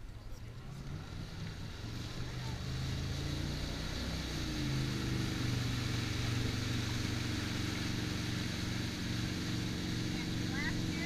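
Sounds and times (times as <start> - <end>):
motorboat engine drone: 0.0 - 11.0
rushing boat wake: 0.0 - 11.0.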